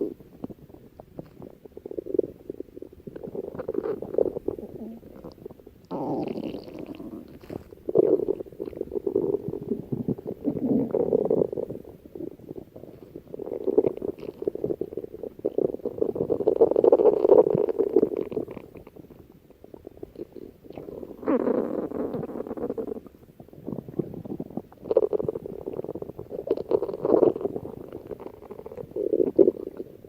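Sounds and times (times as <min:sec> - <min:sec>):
stomach growling: 0:00.0 - 0:30.0.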